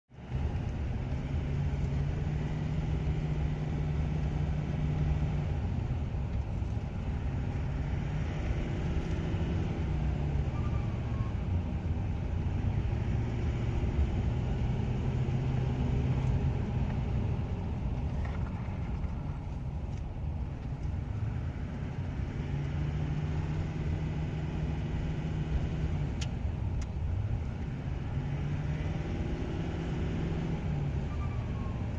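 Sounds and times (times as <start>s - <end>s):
diesel engine pulling uphill: 0.1s - 31.9s.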